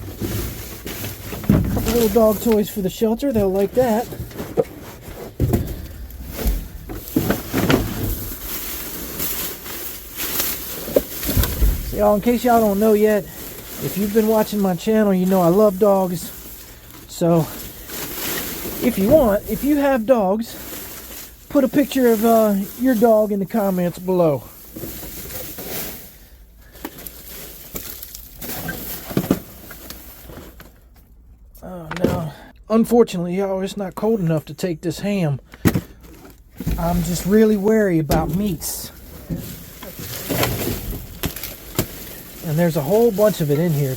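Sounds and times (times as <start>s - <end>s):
rubbish rustling and scraping: 0.0s - 31.2s, 35.5s - 43.9s.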